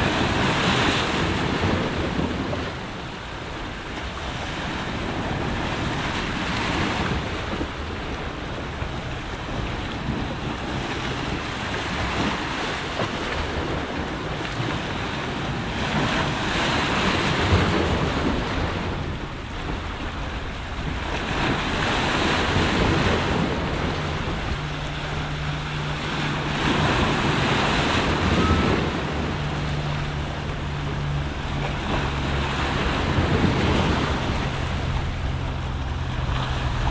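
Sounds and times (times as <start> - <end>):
waves breaking over rocks: 0.0 - 36.9
low steady hum: 1.2 - 36.9.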